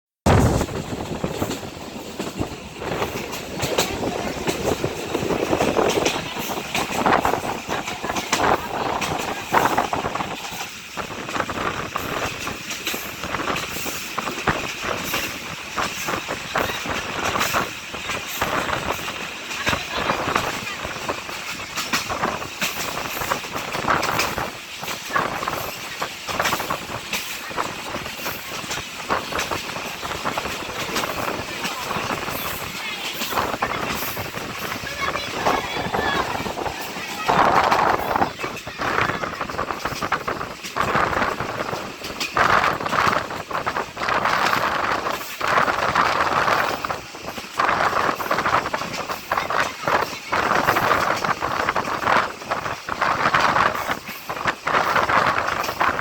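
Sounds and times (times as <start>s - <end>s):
train rumbling on track: 0.2s - 56.0s.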